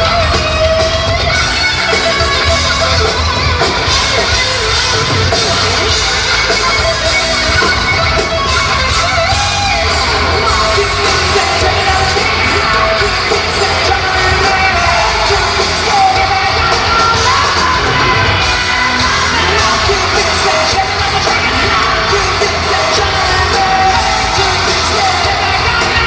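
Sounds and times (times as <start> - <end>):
heavy metal band playing: 0.0 - 26.0
person yelling and singing: 1.3 - 26.0.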